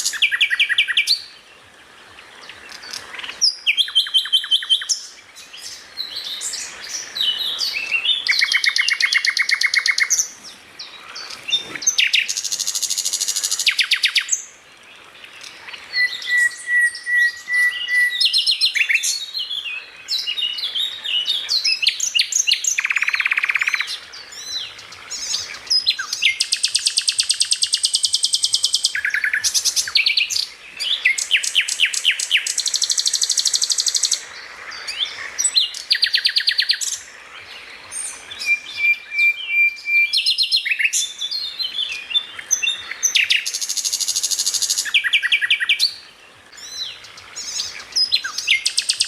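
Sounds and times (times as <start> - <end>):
songbirds singing: 0.0 - 49.0.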